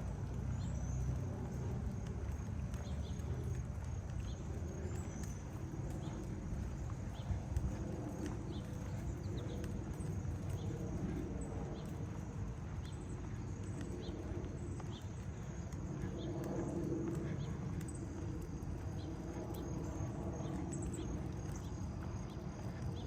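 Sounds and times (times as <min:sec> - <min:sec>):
footsteps on pavement: 0:00.0 - 0:23.0
low outdoor hum: 0:00.0 - 0:23.0.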